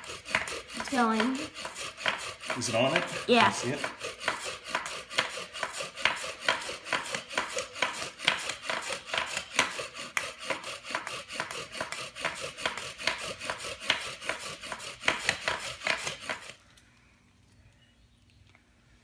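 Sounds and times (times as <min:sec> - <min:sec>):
bow drill rasping wood on wood: 0:00.0 - 0:16.6.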